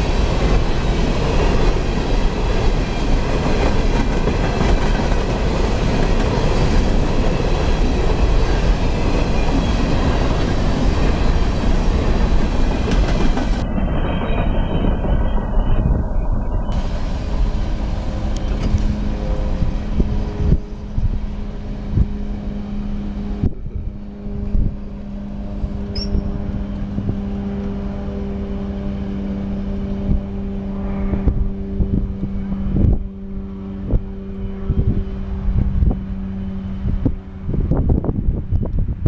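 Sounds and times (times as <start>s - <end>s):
train rumbling hum: 0.0s - 39.0s
wind buffeting microphone: 0.0s - 39.0s.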